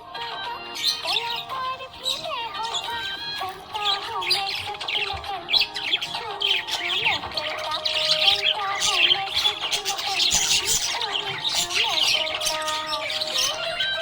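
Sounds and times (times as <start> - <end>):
budgies chirping and squawking: 0.0 - 14.0.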